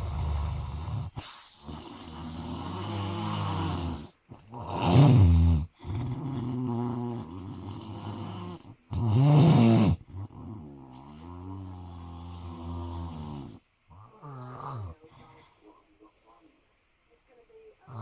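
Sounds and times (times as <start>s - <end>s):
person snoring: 0.0s - 15.7s.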